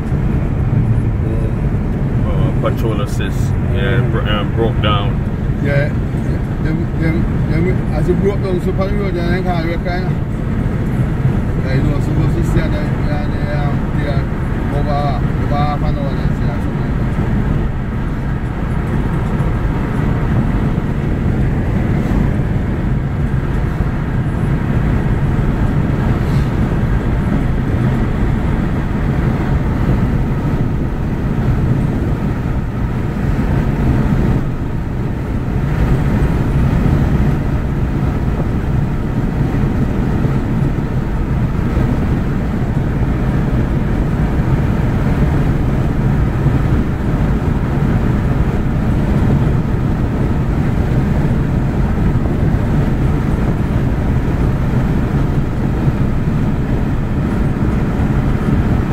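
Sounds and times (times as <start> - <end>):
car engine: 0.0 - 58.9
tyre and road noise: 0.0 - 58.9.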